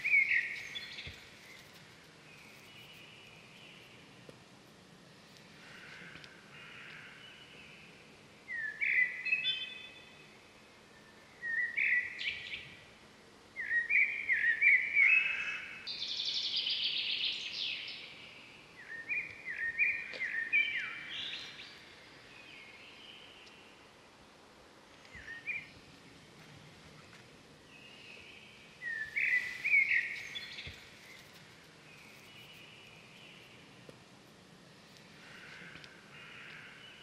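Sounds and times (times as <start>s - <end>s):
faint outdoor background: 0.0s - 37.0s
songbird chirping: 0.0s - 37.0s.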